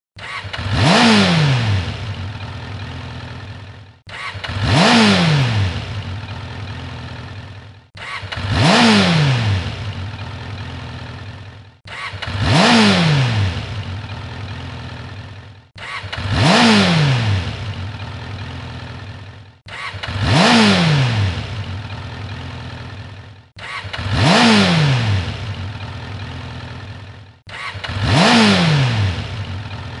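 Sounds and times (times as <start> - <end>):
motorcycle engine revving: 0.2 - 30.0.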